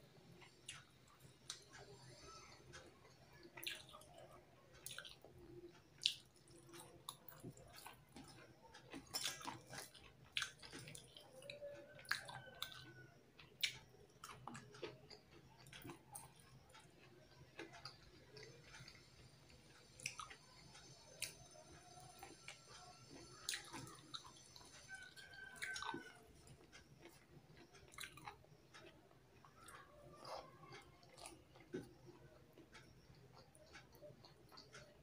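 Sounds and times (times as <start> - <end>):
faint low hum: 0.0 - 35.0
chewing with wet smacks: 0.4 - 35.0.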